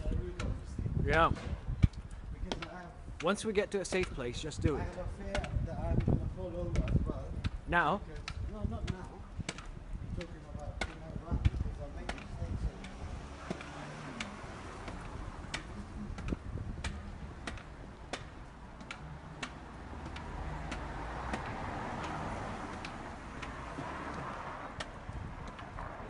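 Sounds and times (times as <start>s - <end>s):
jumping stilts clacking on paving: 0.1s - 4.2s, 4.8s - 26.0s.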